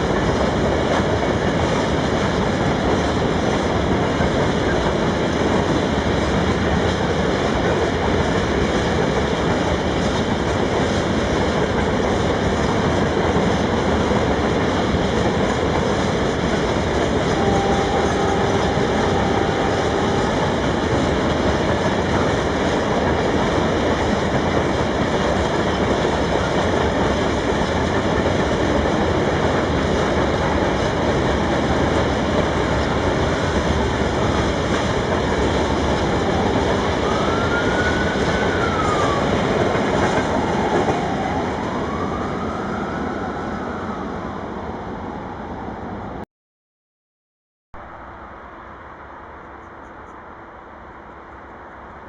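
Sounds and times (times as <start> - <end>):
freight train wagons rumbling: 0.0 - 45.1.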